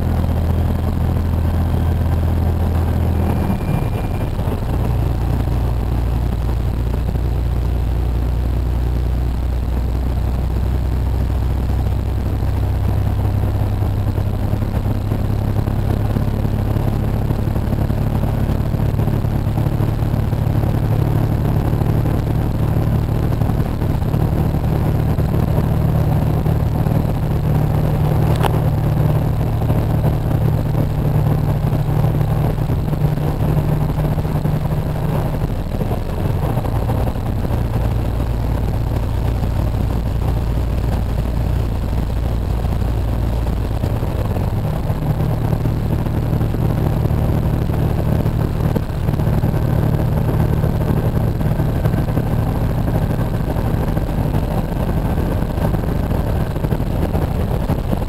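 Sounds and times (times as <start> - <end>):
road noise: 0.0 - 58.0
truck diesel engine running: 0.0 - 58.0.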